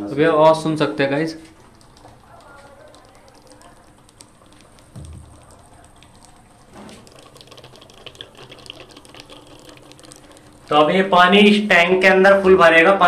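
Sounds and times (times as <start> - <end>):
water rushing into tank: 1.3 - 11.8.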